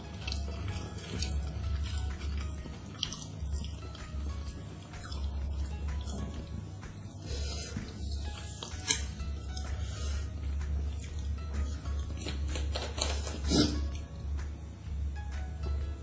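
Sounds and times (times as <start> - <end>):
wet chewing and smacking: 0.0 - 14.1
quiet background music: 0.0 - 16.0.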